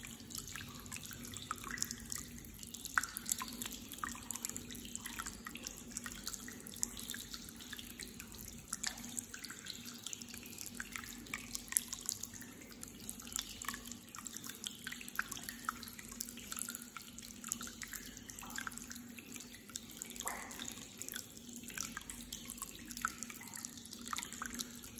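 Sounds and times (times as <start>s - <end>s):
water drips and splashes: 0.0s - 24.9s
water trickling: 0.0s - 24.9s.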